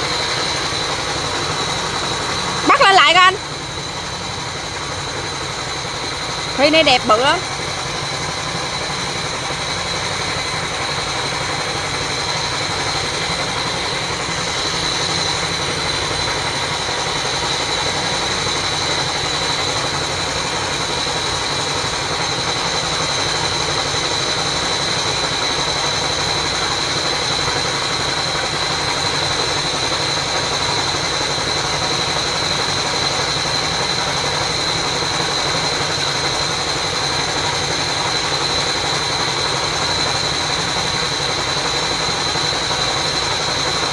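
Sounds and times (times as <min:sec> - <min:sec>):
water pump motor running: 0:00.0 - 0:43.9.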